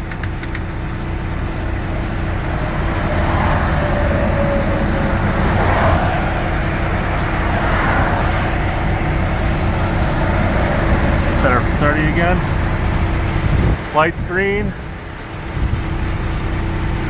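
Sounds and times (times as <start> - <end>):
diesel truck engine idling: 0.0 - 17.0
road traffic passing: 0.0 - 17.0.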